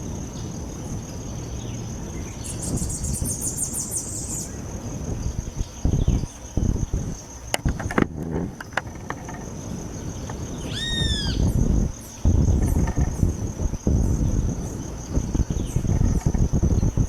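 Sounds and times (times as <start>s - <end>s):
insect trill: 0.0s - 17.0s
wind buffeting microphone: 0.0s - 17.0s.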